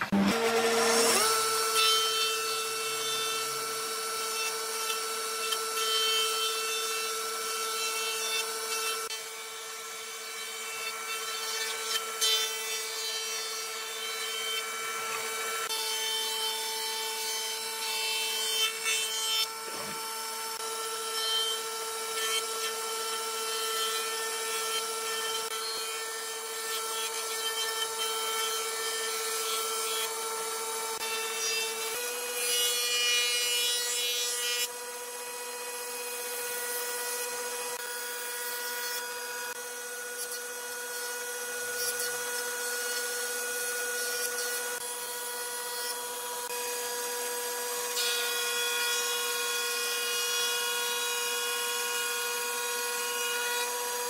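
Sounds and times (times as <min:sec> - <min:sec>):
wood planing rasp: 0:00.0 - 0:46.8
jointer machine whine: 0:00.0 - 0:54.0.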